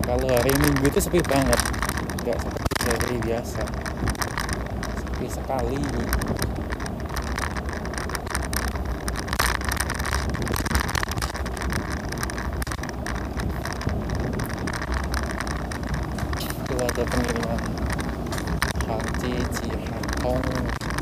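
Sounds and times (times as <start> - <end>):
scooter wheels rumbling on road: 0.0 - 21.0
small rattles and knocks: 0.0 - 21.0
wind buffeting microphone: 0.0 - 21.0.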